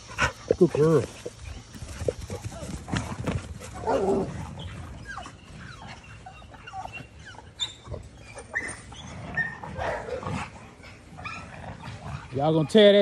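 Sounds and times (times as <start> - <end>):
dogs growling and grunting: 0.0 - 13.0.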